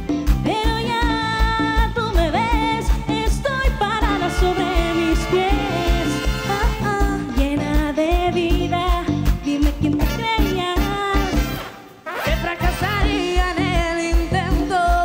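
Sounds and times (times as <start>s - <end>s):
live dance band instrumental: 0.0s - 15.0s.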